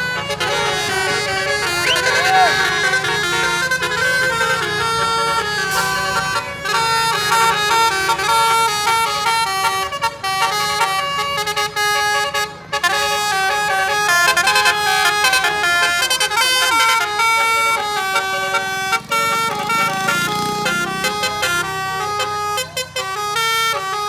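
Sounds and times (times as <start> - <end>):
tuned air horns playing a tune: 0.0 - 24.0.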